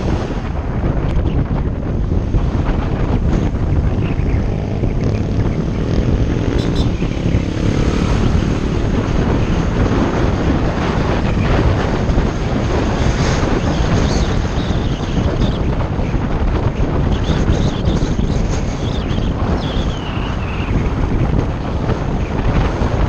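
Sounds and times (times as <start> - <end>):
vehicle engine and road noise: 0.0 - 23.0
wind rushing over microphone: 0.0 - 23.0.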